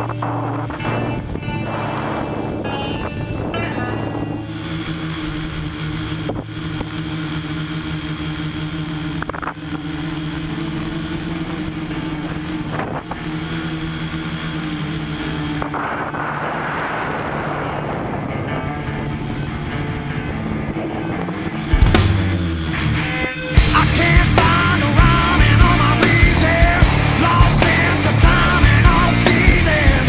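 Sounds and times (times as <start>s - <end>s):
rushing noise: 0.0s - 7.2s, 11.0s - 30.0s
drone motors humming: 0.0s - 30.0s.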